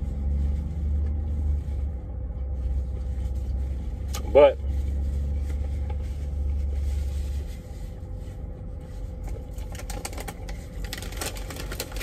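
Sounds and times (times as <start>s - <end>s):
faint steady hum: 0.0s - 12.0s
low truck engine rumble: 0.0s - 12.0s.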